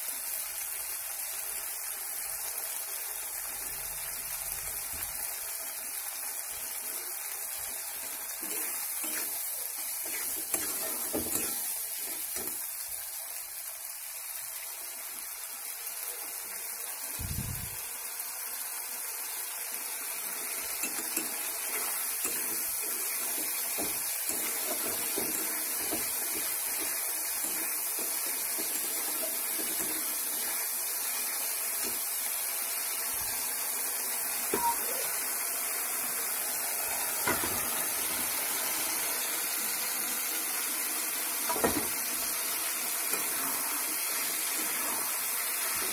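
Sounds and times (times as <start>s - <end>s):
curry sizzling in oil: 0.0s - 45.9s.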